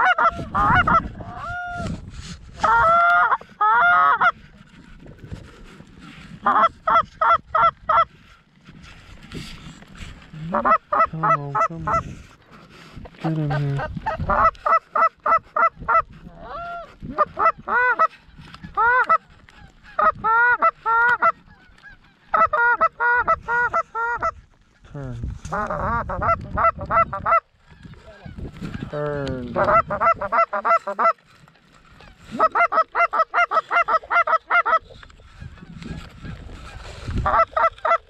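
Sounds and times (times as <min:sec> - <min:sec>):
goose call honks and clucks: 0:00.0 - 0:02.0, 0:02.6 - 0:04.6, 0:06.4 - 0:08.2, 0:10.3 - 0:12.4, 0:13.1 - 0:24.4, 0:25.0 - 0:38.0.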